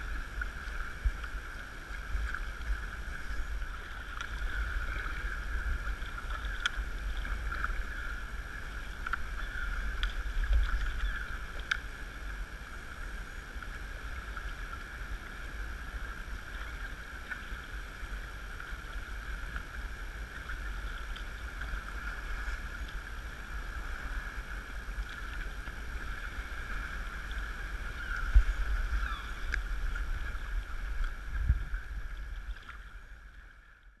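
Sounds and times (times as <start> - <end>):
water sloshing around kayak: 0.0 - 34.0
wind rumble on microphone: 0.0 - 34.0.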